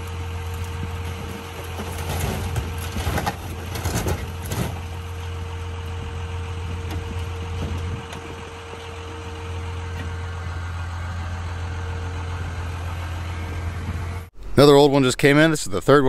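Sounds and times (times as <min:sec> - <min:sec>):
loader diesel engine running: 0:00.0 - 0:14.7.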